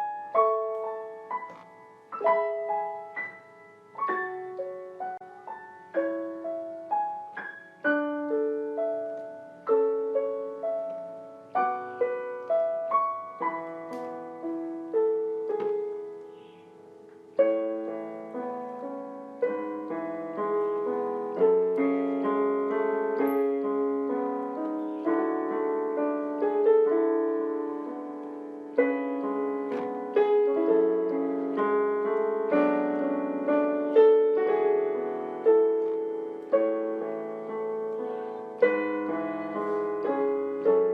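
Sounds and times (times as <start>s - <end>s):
gentle piano music: 0.0s - 40.9s.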